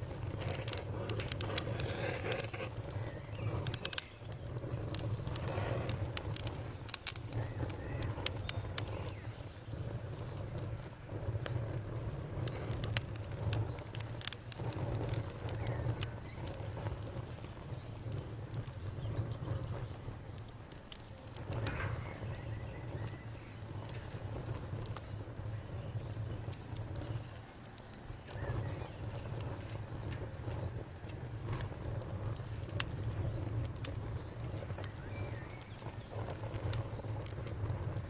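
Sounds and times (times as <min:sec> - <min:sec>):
cricket chirping: 0:00.0 - 0:38.0
low rumble of flames: 0:00.0 - 0:38.0
wood fire crackling: 0:00.0 - 0:38.0.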